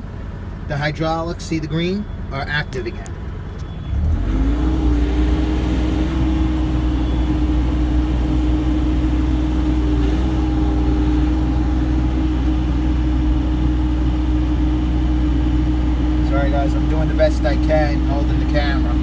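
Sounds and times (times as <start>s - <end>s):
excavator diesel engine revving: 3.2s - 19.0s.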